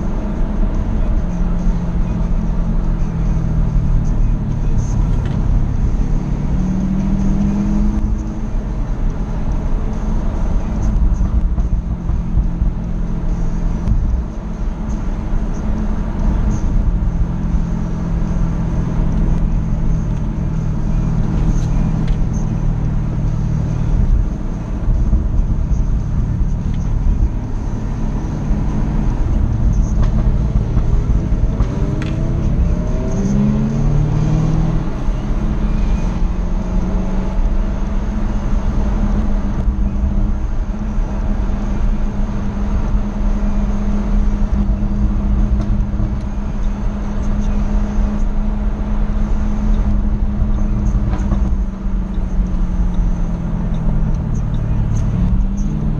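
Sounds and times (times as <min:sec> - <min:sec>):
car engine drone: 0:00.0 - 0:55.9
road rumble: 0:00.0 - 0:55.9.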